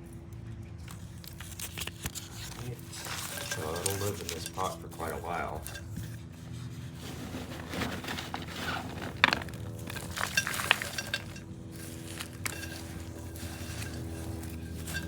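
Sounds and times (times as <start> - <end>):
potting mix rattling and crunching: 0.1 - 15.0.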